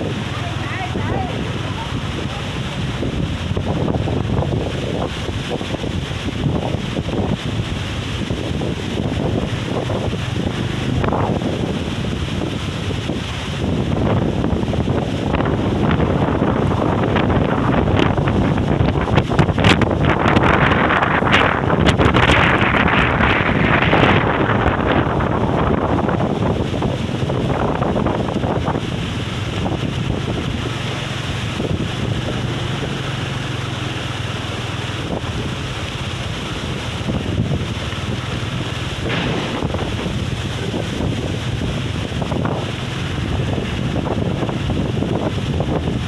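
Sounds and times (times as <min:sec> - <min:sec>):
surf rumbling: 0:00.0 - 0:46.0
wind buffeting microphone: 0:00.0 - 0:46.0.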